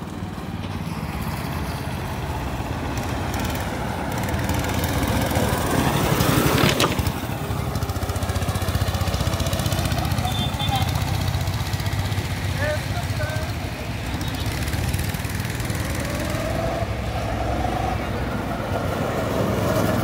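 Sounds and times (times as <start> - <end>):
go-kart engines buzzing: 0.0 - 20.0.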